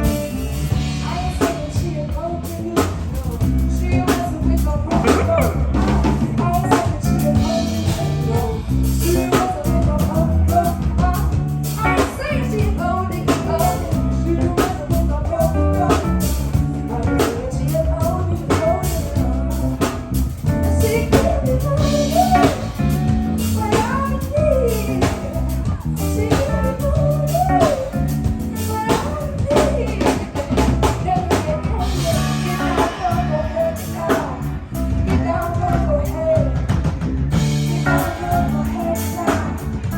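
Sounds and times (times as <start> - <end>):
drum kit beat: 0.0 - 39.9
live band playing: 0.0 - 39.9
sliding lead melody: 0.0 - 39.9.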